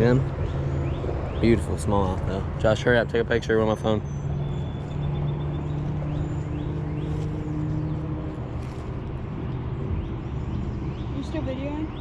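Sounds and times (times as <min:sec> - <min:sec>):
constant rushing background: 0:00.0 - 0:12.0
road traffic engine hum: 0:00.0 - 0:12.0.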